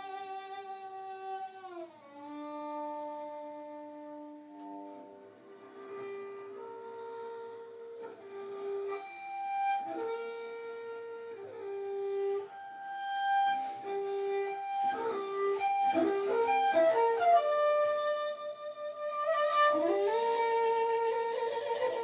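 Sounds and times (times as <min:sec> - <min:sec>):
slow instrumental melody: 0:00.0 - 0:22.0.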